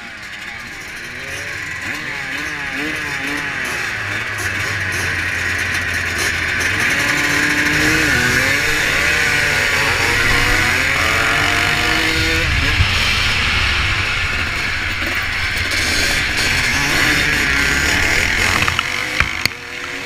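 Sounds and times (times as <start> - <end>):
motocross motorcycles revving: 0.0 - 20.0.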